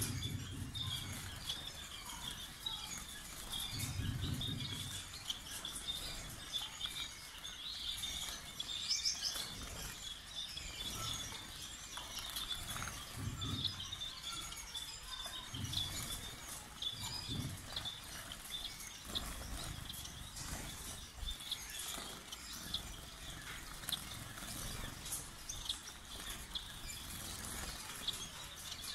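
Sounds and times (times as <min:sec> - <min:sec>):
finches chirping: 0:00.0 - 0:28.9.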